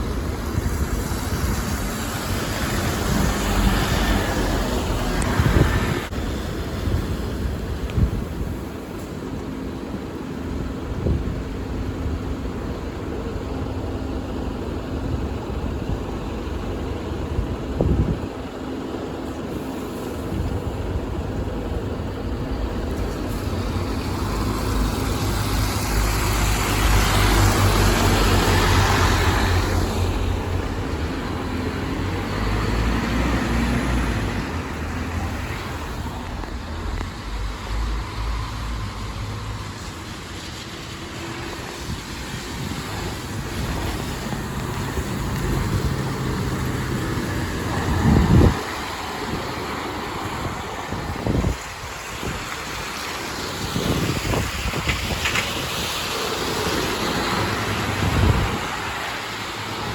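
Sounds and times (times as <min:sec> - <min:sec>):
bus engine passing: 0:00.0 - 0:59.9
traffic noise: 0:00.0 - 0:59.9.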